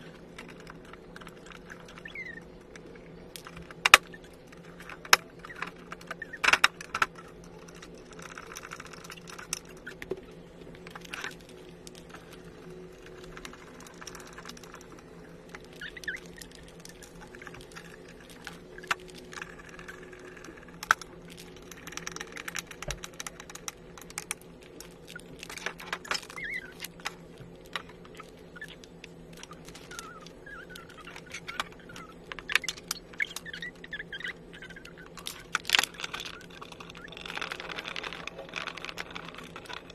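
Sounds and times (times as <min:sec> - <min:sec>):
faint steady hum: 0:00.0 - 0:39.9
plastic parts clicking and rattling: 0:00.0 - 0:39.9.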